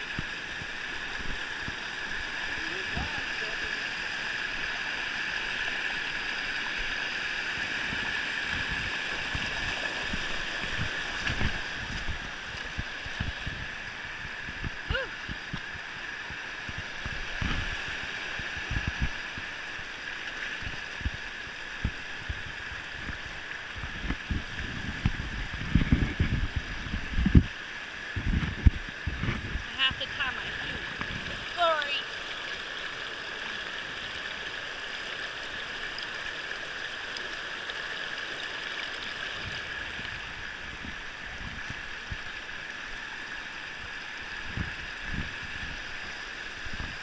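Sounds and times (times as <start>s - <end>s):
water rushing over rocks: 0.0s - 47.0s.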